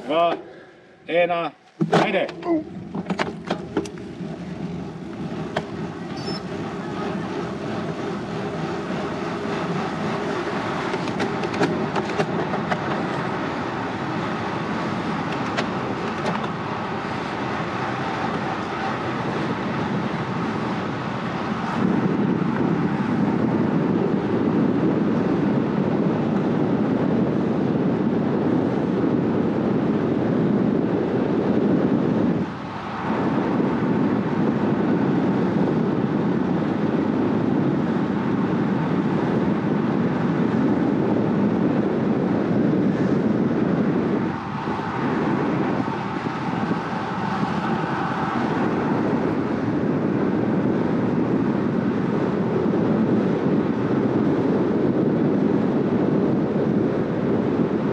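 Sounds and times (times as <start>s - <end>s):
bike tyres humming on asphalt: 0.0s - 57.9s
wind rushing over microphone: 0.0s - 57.9s.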